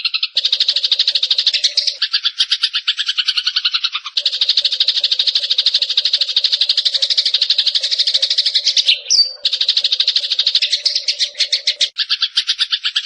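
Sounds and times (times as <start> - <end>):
sharp bird chirp: 0.0 - 13.0
sparrow rattling trill: 0.0 - 13.0.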